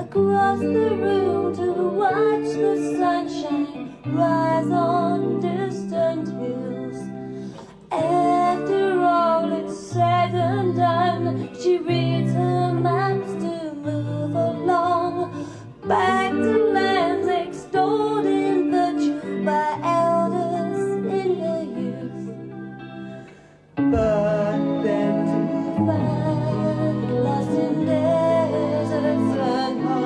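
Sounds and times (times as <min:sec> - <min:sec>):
woman singing: 0:00.0 - 0:22.8, 0:23.9 - 0:30.0
sustained backing chords: 0:00.0 - 0:30.0.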